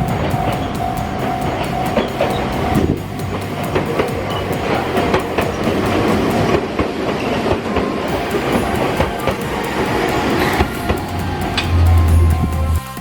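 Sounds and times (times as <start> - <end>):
train wheels clicking on rails: 0.0 - 13.0.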